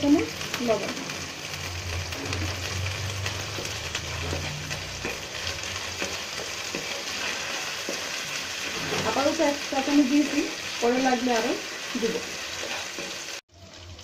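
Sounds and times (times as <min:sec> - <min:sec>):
onions sizzling in oil: 0:00.0 - 0:14.0
wooden spatula scraping a pan: 0:02.1 - 0:13.4.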